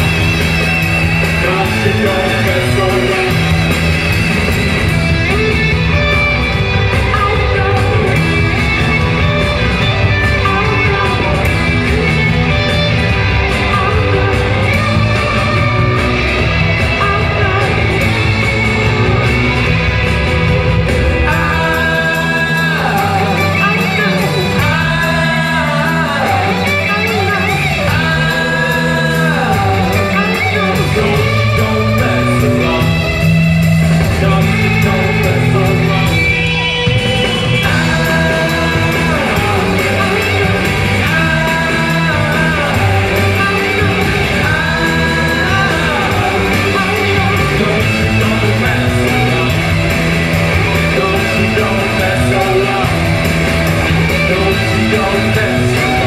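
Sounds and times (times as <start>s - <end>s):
drums: 0.0s - 56.0s
electric guitars: 0.0s - 56.0s
person singing: 0.0s - 56.0s
rock band playing live: 0.0s - 56.0s.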